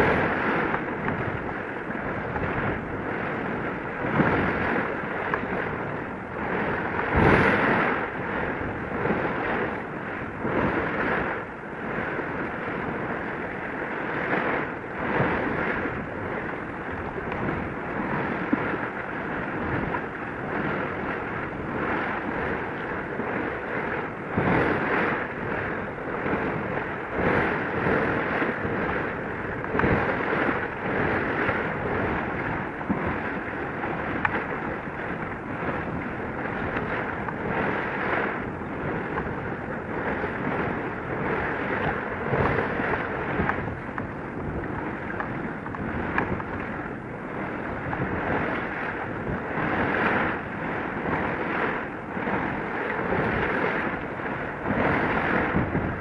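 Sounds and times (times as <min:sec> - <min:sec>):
sea noise: 0:00.0 - 0:56.0
wind buffeting microphone: 0:00.0 - 0:56.0.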